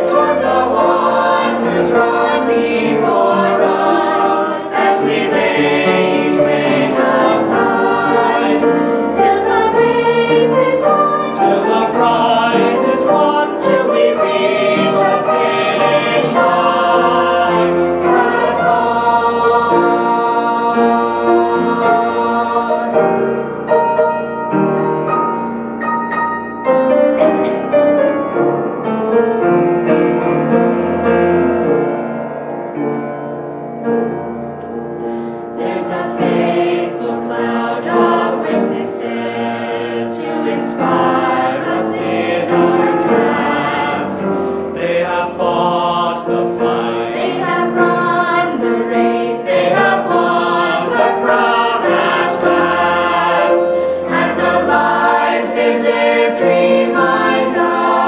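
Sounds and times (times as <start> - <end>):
choir singing a hymn: 0.0 - 25.9, 26.6 - 32.2, 35.0 - 58.0.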